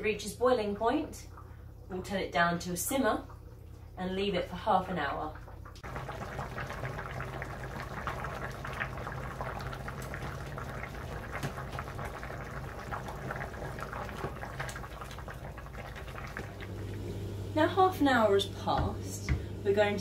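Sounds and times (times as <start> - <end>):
low steady hum: 0.0 - 20.0
soup boiling and bubbling: 0.6 - 19.8.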